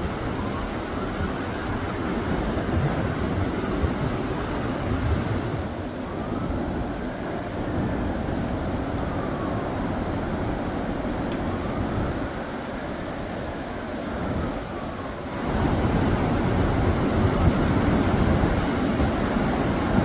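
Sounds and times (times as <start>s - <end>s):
gusty wind on microphone: 0.0s - 20.0s.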